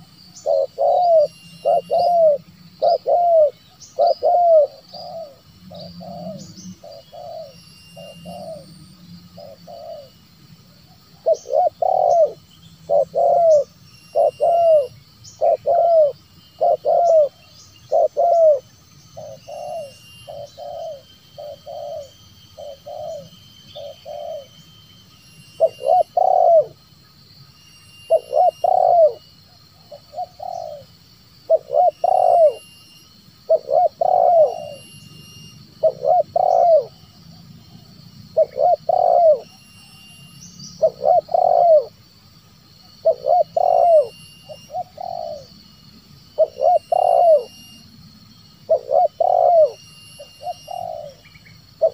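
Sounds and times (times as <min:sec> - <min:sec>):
doves cooing: 0:00.0 - 0:10.2, 0:10.9 - 0:24.6, 0:25.6 - 0:26.8, 0:28.1 - 0:30.9, 0:31.5 - 0:32.6, 0:33.5 - 0:34.9, 0:35.7 - 0:40.0, 0:40.8 - 0:42.0, 0:42.9 - 0:45.6, 0:46.3 - 0:47.6, 0:48.6 - 0:51.9
small birds chirping: 0:00.0 - 0:51.9.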